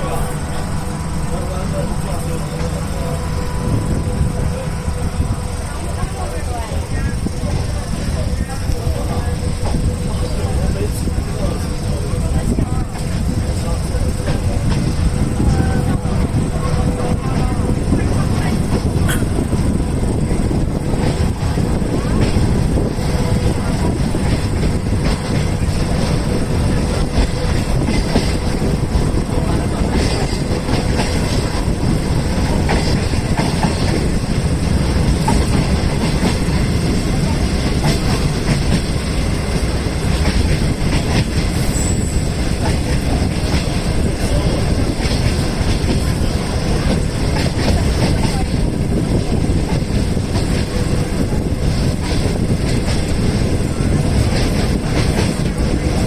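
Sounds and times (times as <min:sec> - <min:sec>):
train wheels rumbling on rails: 0:00.0 - 0:56.0
wheels clicking over rail joints: 0:05.5 - 0:56.0.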